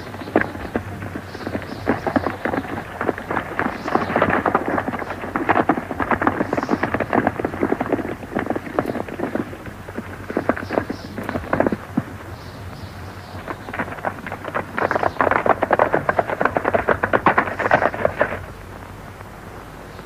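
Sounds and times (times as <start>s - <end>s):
horses galloping hoofbeats: 0.0s - 20.0s.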